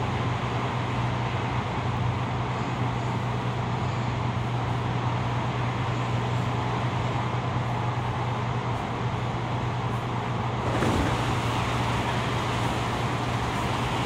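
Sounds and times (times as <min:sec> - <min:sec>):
low hum inside train: 0:00.0 - 0:14.0
wheels rumbling on rail: 0:00.0 - 0:14.0.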